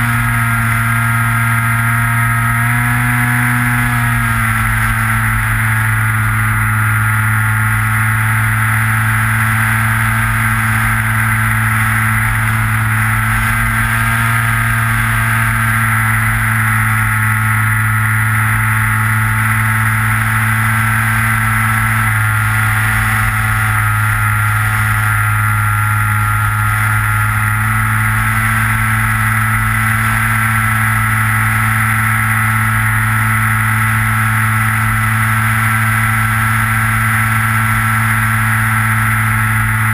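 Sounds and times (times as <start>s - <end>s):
electric motor and propeller drone: 0.0s - 39.9s
high whine: 0.0s - 39.9s.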